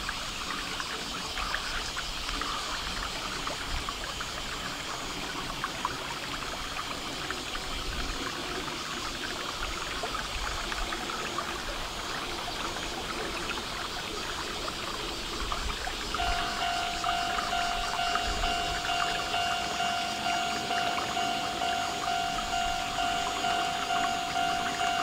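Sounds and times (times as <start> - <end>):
continuous rushing hiss with crackles: 0.0 - 25.0.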